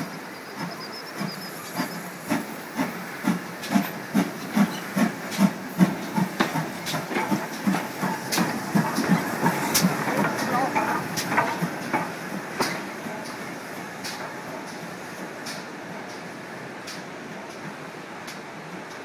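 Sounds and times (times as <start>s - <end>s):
steam hissing: 0.0s - 17.2s
steam locomotive chuffing beat: 0.0s - 19.0s.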